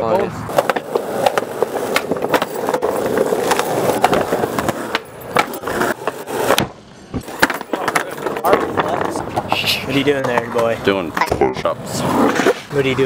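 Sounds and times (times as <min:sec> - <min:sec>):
skateboard wheels rolling on concrete: 0:00.0 - 0:13.0
skateboard clacks: 0:00.5 - 0:11.6.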